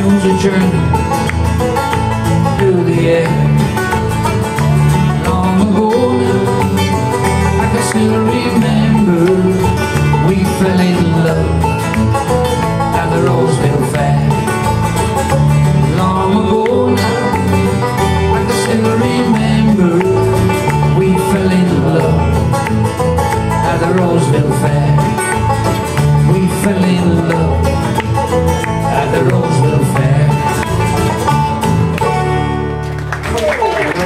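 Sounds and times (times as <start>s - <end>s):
folk band playing instrumental: 0.0s - 34.0s.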